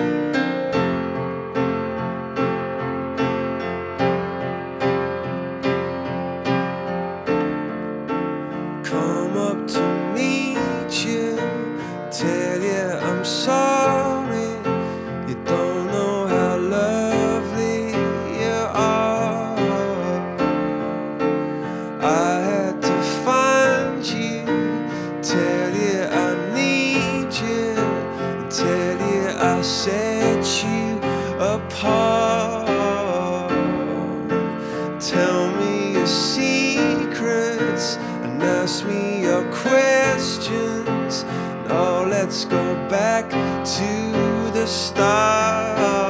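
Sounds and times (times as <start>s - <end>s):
piano background music: 0.0s - 46.0s.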